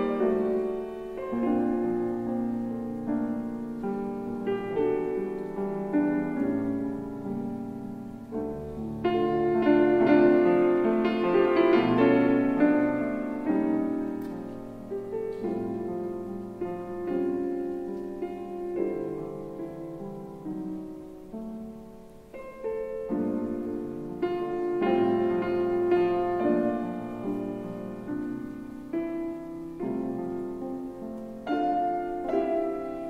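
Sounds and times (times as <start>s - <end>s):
gentle solo piano music: 0.0s - 33.0s.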